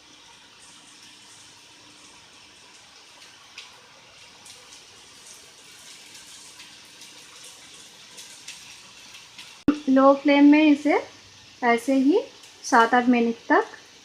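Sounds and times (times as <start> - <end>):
kebabs sizzling in oil: 0.0 - 14.0.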